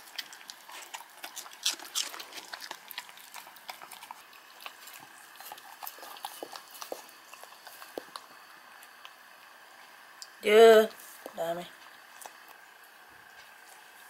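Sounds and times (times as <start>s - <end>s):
animals lapping and chewing: 0.0s - 10.3s, 11.0s - 14.0s.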